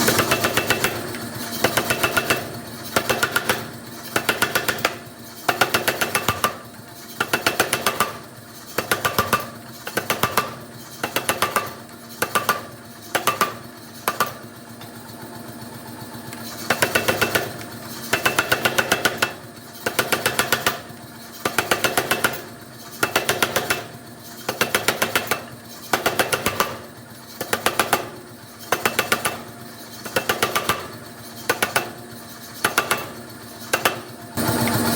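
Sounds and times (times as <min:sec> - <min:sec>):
hammer striking steel: 0:00.0 - 0:06.6, 0:07.2 - 0:15.0, 0:16.6 - 0:34.2.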